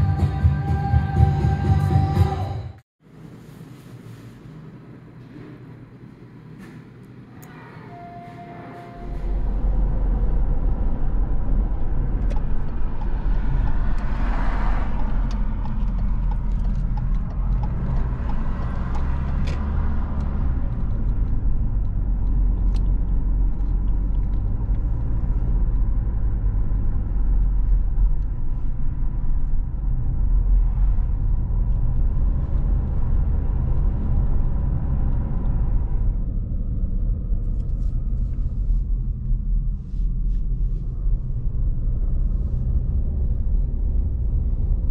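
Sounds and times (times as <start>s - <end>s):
car tyres and engine rumble: 8.7s - 44.9s.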